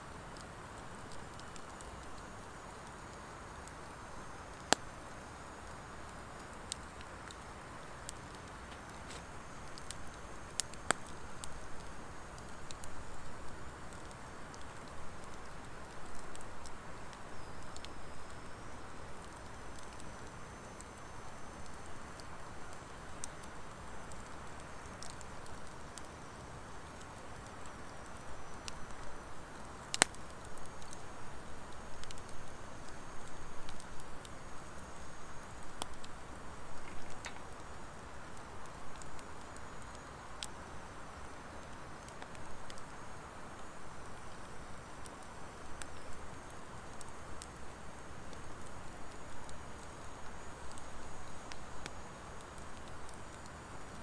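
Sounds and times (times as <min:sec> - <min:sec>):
fire crackling pops: 0:00.1 - 0:54.0
wood fire flames flickering: 0:00.1 - 0:54.0.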